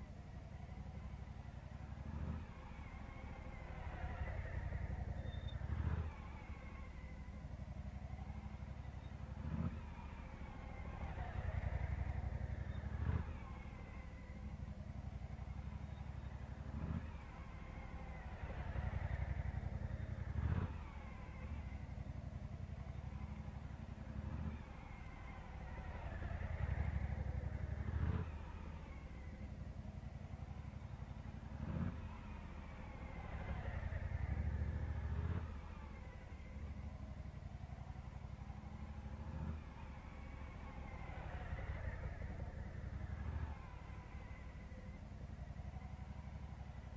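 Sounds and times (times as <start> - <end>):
motorcycle engine at low revs: 0.0 - 46.9.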